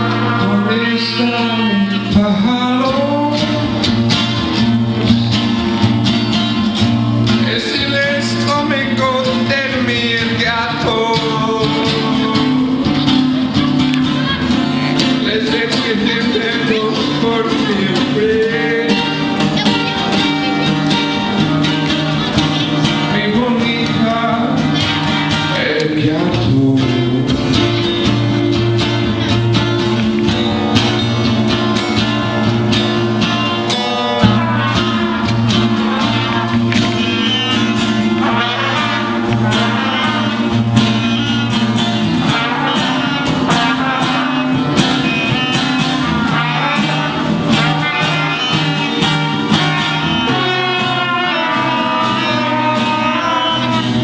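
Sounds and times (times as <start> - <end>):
plucked guitar: 0.0 - 54.0.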